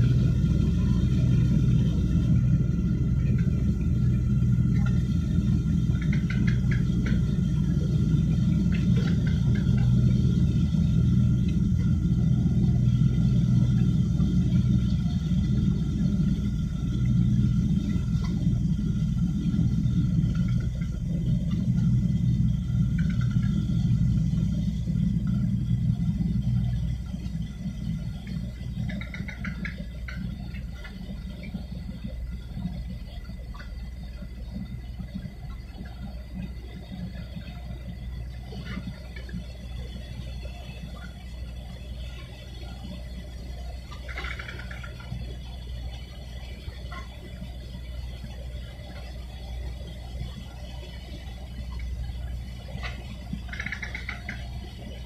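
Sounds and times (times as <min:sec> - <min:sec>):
ship diesel engine rumble: 0:00.0 - 0:55.0.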